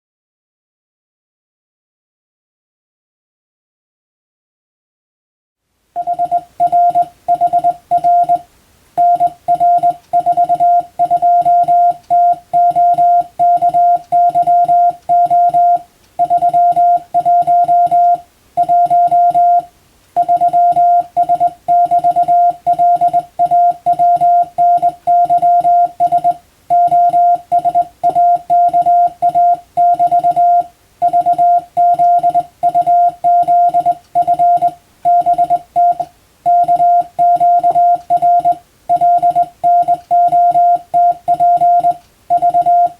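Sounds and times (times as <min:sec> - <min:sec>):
morse code beeps: 0:06.0 - 0:08.4, 0:09.0 - 0:42.9.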